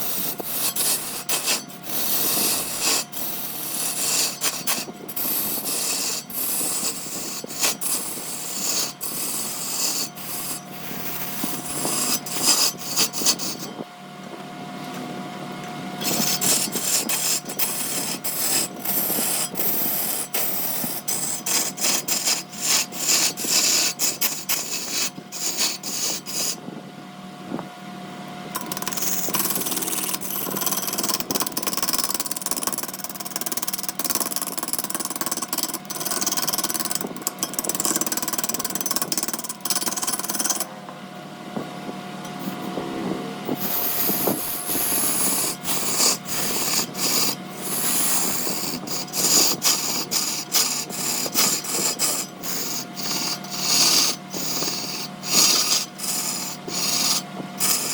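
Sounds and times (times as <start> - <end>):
turning tool scraping wood: 0.0 - 13.8, 16.0 - 26.7, 28.5 - 40.7, 42.2 - 57.9
wood lathe motor hum: 0.0 - 13.9, 15.6 - 26.7, 28.5 - 40.7, 42.2 - 57.9.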